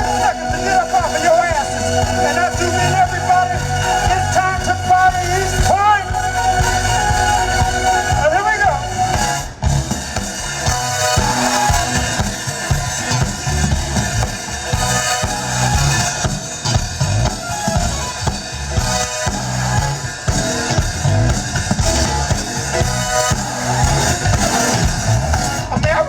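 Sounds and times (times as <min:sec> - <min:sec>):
funk band playing: 0:00.0 - 0:26.0.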